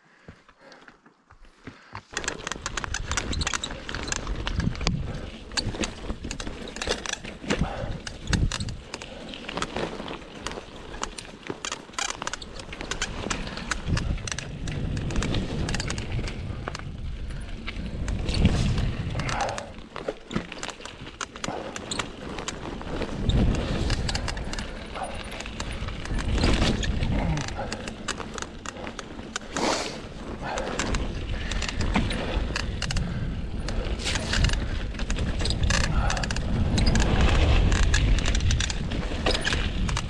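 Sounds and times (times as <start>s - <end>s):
tyre rumble: 2.1s - 40.0s
mountain bike clattering and squeaking: 2.2s - 40.0s.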